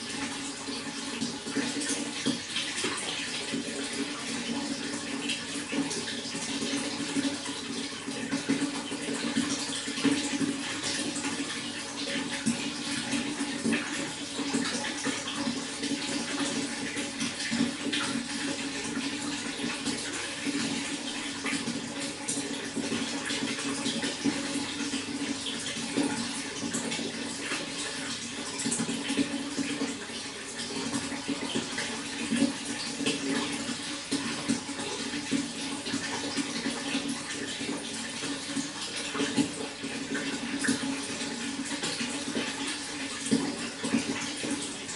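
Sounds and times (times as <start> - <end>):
running water splashing: 0.0 - 44.9.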